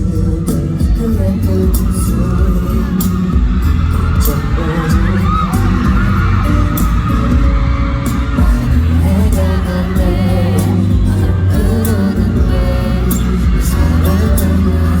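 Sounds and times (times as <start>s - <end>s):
man singing lead vocal: 0.0s - 15.0s
pop ballad with band: 0.0s - 15.0s.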